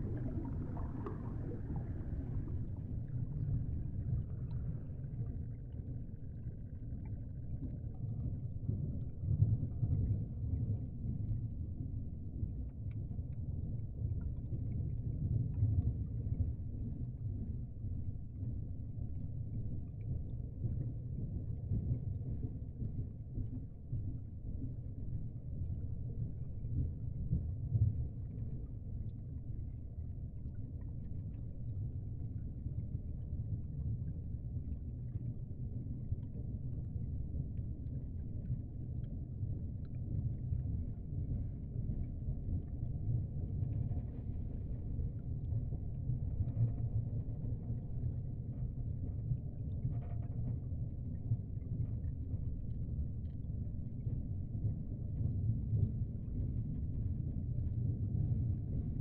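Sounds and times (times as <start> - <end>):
low watery rumble: 0.0 - 59.0.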